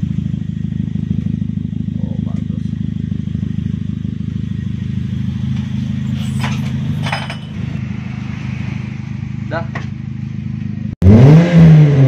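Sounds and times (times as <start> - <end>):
car exhaust idling rumble: 0.0 - 11.0.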